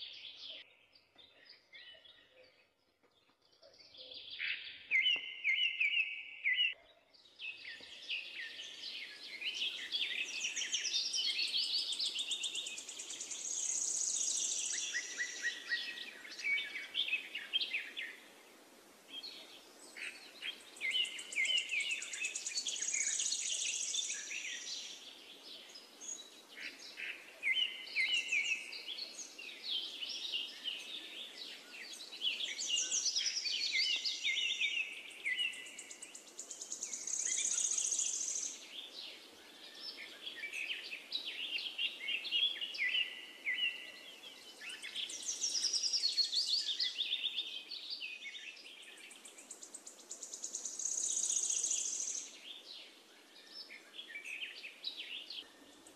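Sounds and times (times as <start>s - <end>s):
small birds chirping and trilling: 0.0s - 55.9s.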